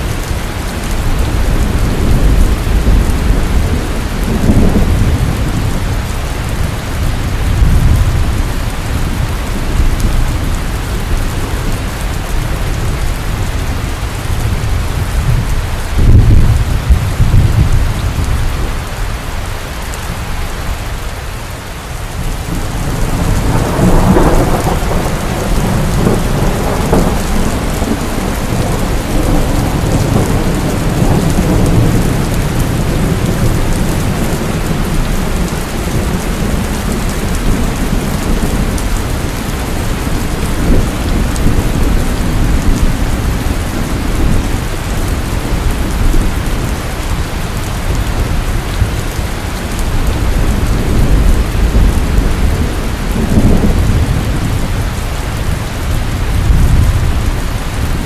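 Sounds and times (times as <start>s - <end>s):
low rolling thunder: 0.0s - 19.2s, 22.0s - 58.0s
heavy rain pouring: 0.0s - 58.0s.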